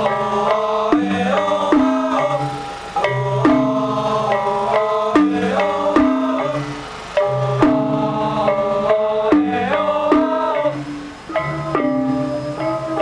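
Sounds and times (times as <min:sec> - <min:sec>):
drums: 0:00.0 - 0:13.0
pitched percussion melody: 0:00.0 - 0:13.0.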